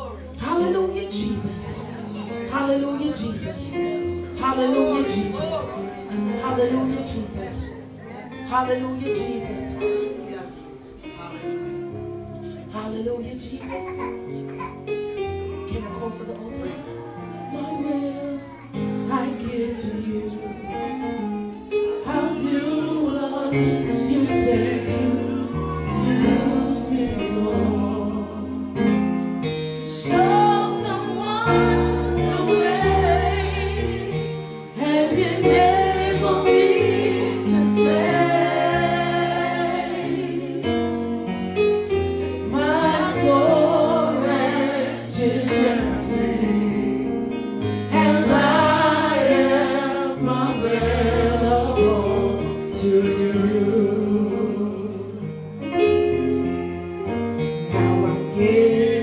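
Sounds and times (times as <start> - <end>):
gospel singing with accompaniment: 0.0 - 59.0.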